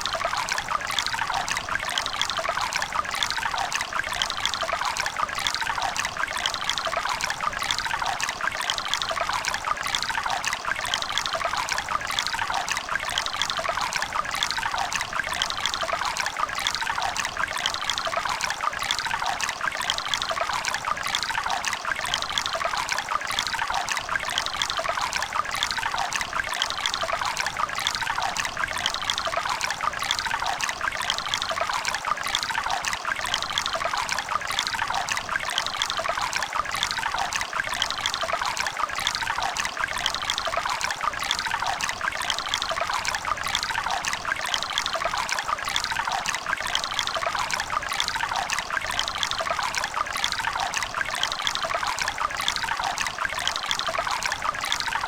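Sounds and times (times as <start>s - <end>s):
river water trickling over stones: 0.0s - 55.0s.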